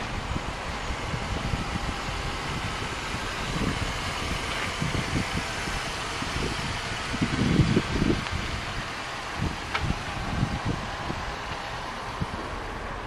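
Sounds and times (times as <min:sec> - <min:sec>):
vehicle hum: 0:00.0 - 0:13.0
wind buffeting microphone: 0:00.0 - 0:13.0.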